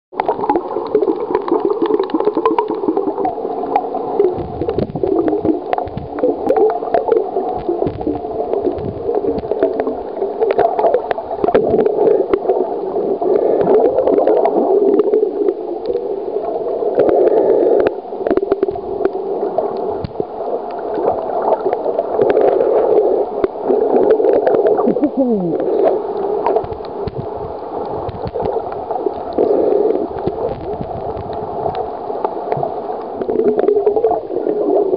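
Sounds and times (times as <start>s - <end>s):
muffled underwater gurgling: 0.2s - 34.9s.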